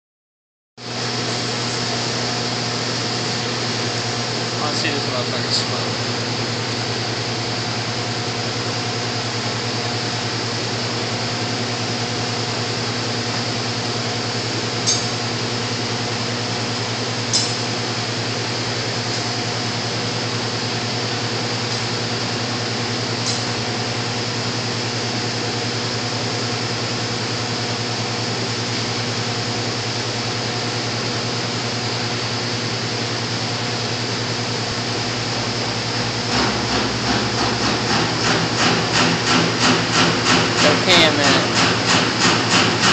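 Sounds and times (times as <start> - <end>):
steady mechanical hum: 0.8 - 42.9.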